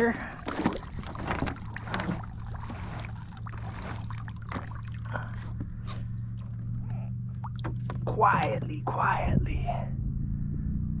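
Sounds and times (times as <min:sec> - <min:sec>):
water splashing against hull: 0:00.0 - 0:08.8.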